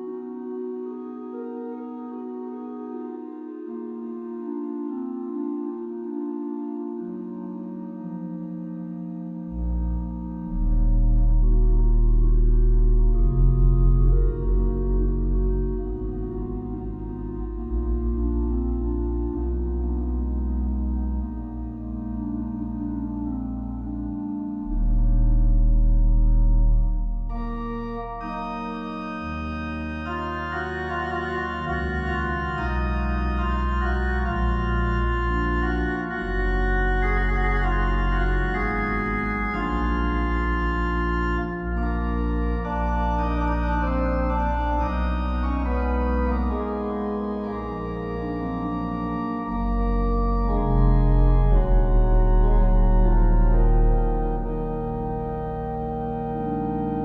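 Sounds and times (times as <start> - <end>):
slow organ music: 0.0 - 57.0.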